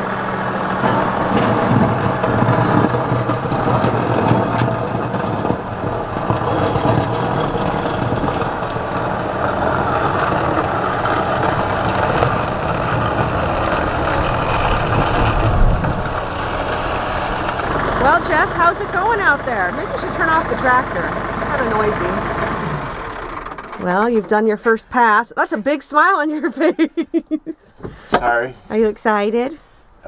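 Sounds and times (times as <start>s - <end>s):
tractor diesel engine running: 0.0s - 26.8s.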